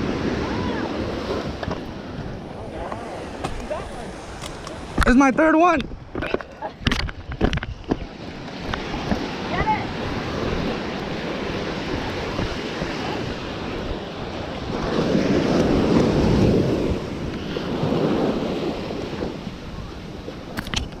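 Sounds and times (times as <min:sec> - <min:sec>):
ocean surf washing up beach: 0:00.0 - 0:21.0
wave breaking: 0:00.0 - 0:21.0
wind buffeting microphone: 0:00.0 - 0:21.0.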